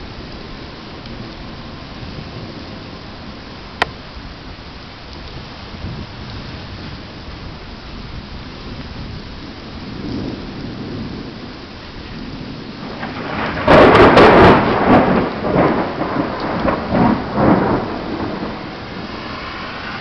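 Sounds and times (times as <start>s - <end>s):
steady rain: 0.0s - 20.0s
thunderclap and rolling rumbles: 0.0s - 20.0s.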